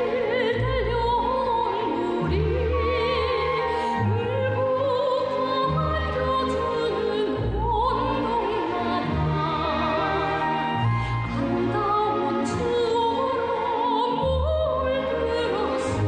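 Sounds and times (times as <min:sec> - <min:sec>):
orchestral accompaniment: 0:00.0 - 0:16.0.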